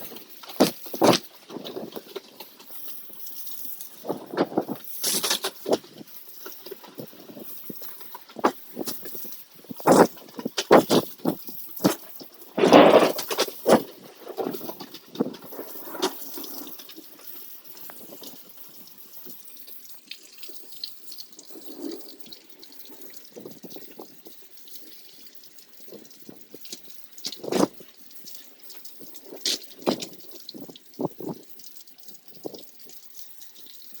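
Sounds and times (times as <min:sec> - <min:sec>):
close water drips: 0:00.0 - 0:34.0
crunchy crackling noise: 0:00.0 - 0:34.0
rain falling: 0:00.0 - 0:34.0.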